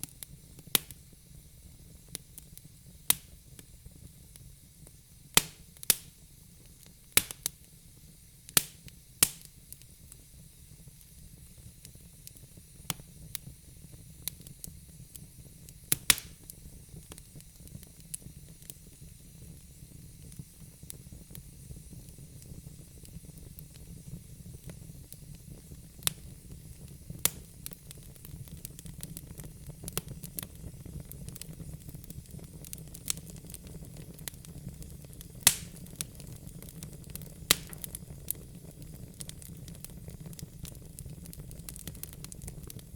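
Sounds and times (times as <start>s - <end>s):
faint hiss: 0.0s - 42.9s
low rumble of flames: 0.0s - 42.9s
wood fire crackling and popping: 0.0s - 42.9s.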